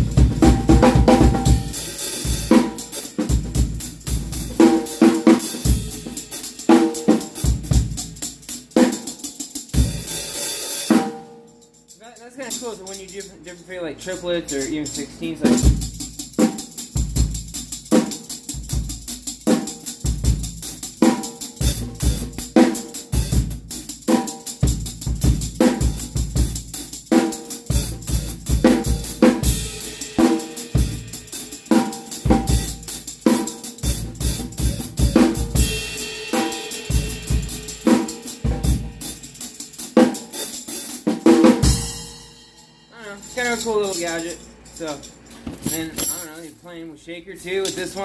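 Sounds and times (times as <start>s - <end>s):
tambourine jangling: 0.0s - 46.6s, 47.5s - 48.0s
drum kit groove: 0.0s - 46.7s, 47.3s - 48.0s.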